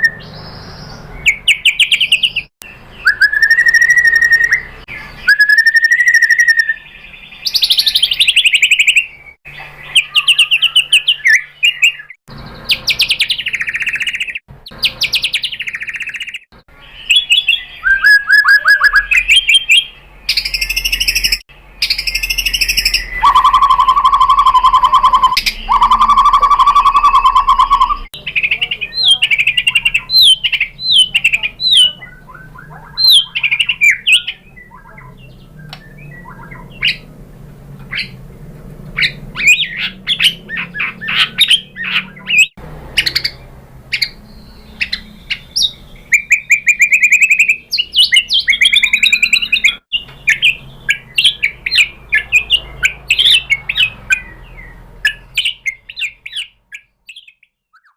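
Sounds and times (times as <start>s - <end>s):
bird singing whistles and trills: 0.0s - 37.1s, 39.0s - 57.9s.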